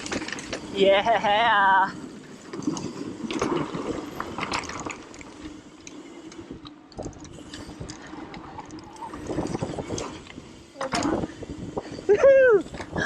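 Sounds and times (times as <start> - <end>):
bike clicks and rattles: 0.0 - 13.0
bike tyres on dirt: 0.0 - 13.0.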